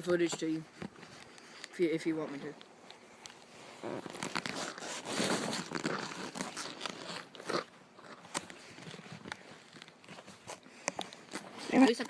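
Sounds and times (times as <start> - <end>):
rustling and crunching handling: 0.0 - 12.0.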